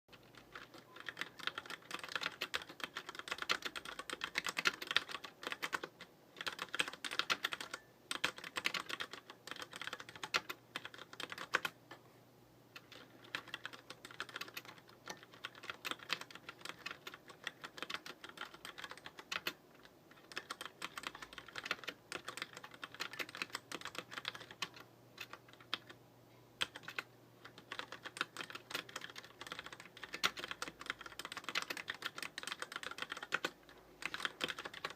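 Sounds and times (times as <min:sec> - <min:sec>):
mechanical keyboard typing: 0:00.1 - 0:12.0, 0:12.7 - 0:26.0, 0:26.6 - 0:34.9.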